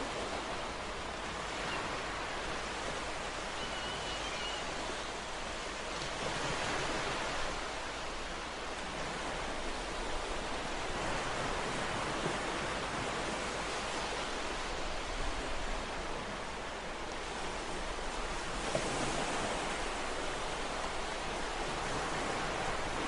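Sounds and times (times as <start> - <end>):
ocean waves surf: 0.0 - 23.0.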